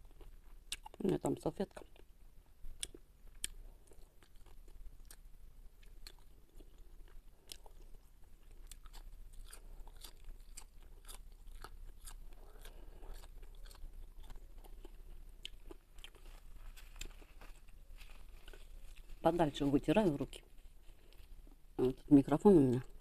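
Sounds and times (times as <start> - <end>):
person chewing crunchy food: 0.0 - 1.0, 1.7 - 19.2.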